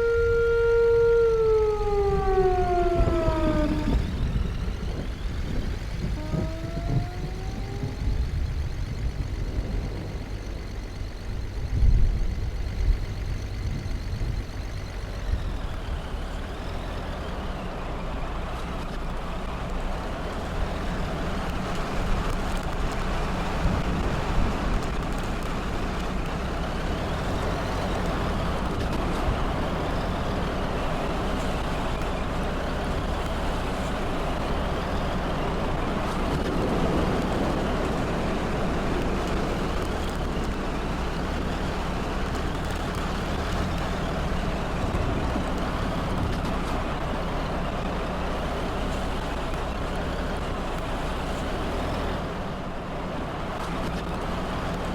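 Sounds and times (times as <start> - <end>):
vehicle road and engine rumble: 0.0 - 54.9.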